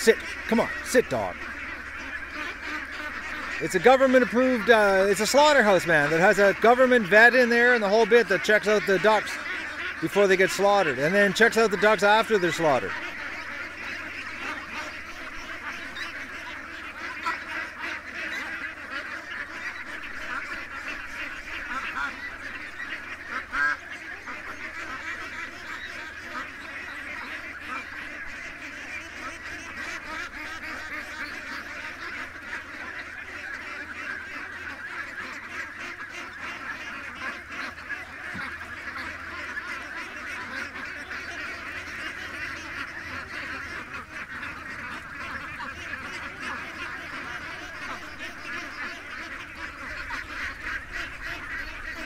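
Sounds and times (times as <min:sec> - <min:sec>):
ducks quacking: 0:00.0 - 0:52.0.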